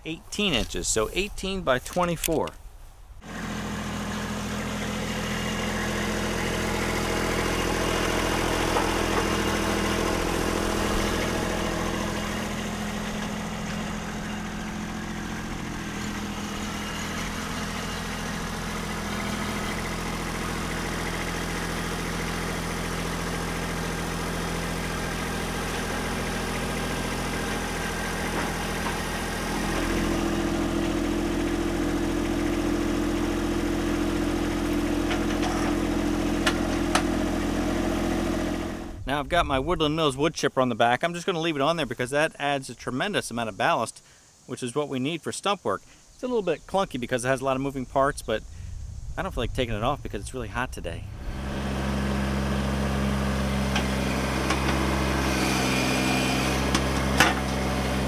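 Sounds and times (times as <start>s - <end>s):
tractor diesel engine running: 0.0s - 2.6s, 3.2s - 44.5s, 45.8s - 58.0s.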